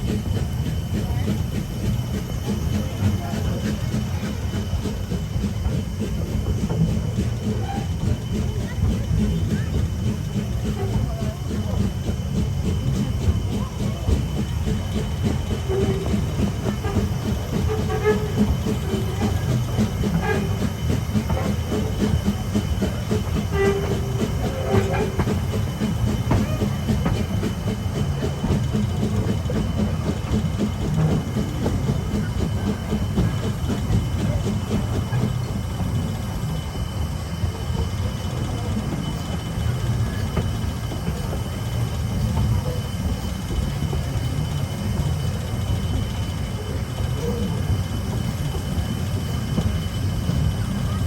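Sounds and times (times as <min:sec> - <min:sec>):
train cars rattling on rails: 0:00.0 - 0:51.0.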